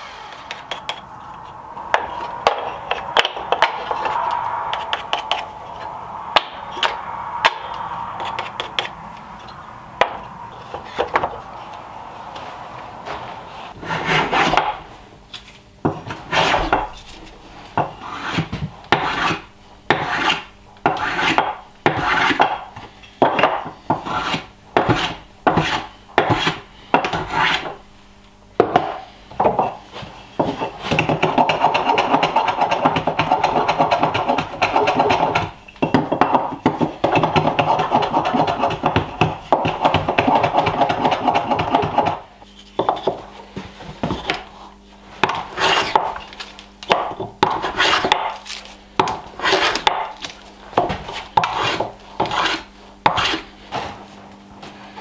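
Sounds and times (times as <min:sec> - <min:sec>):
hand tool scraping wood: 0:00.0 - 0:11.4, 0:13.5 - 0:14.8, 0:16.0 - 0:27.8, 0:28.8 - 0:54.0.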